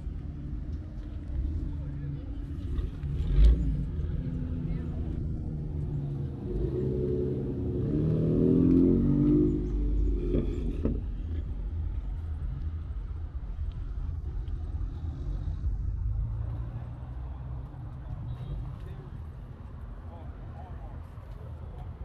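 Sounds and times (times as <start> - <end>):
car engine revving and idling: 0.0 - 18.1.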